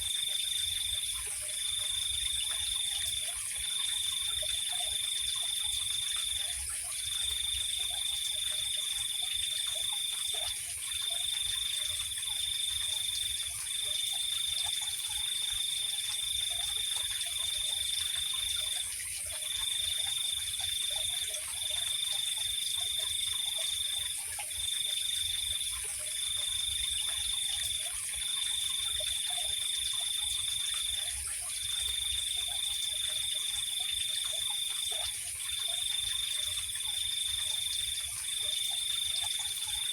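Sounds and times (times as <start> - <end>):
cricket-like trill: 0.0 - 39.9.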